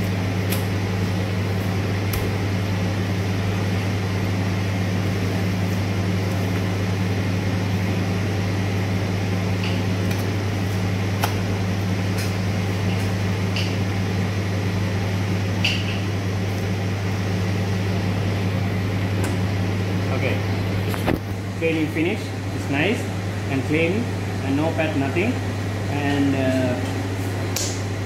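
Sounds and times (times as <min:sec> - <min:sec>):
kitchen machine humming: 0:00.0 - 0:28.0.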